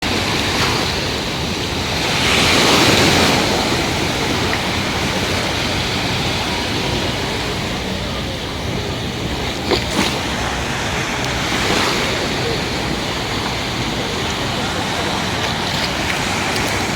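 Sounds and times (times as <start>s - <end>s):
sea waves breaking: 0.0s - 16.9s
wind on microphone: 0.0s - 16.9s.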